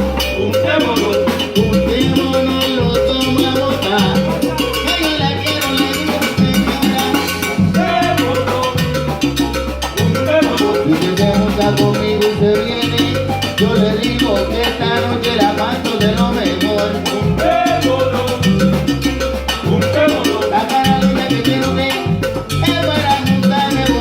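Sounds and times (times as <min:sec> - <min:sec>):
bass line: 0:00.0 - 0:24.0
melodic instruments: 0:00.0 - 0:24.0
salsa percussion rhythm: 0:00.0 - 0:24.0.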